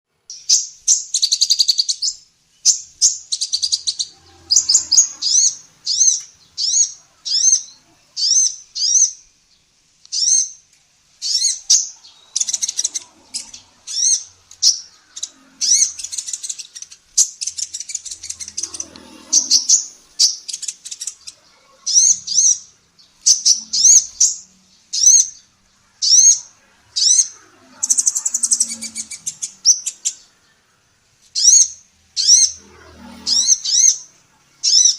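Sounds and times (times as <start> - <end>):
sunbird chirping: 0.2 - 34.9.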